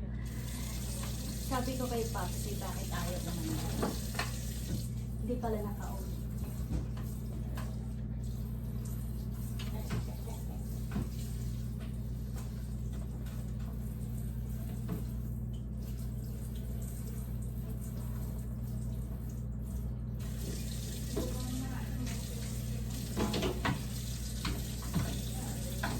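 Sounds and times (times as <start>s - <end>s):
faucet running into sink: 0.2s - 25.9s.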